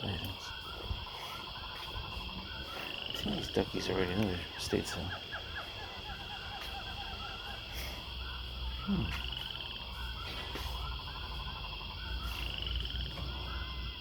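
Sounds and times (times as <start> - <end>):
small animals chirping: 0.0 - 14.0
steady high-pitched drone: 0.0 - 14.0.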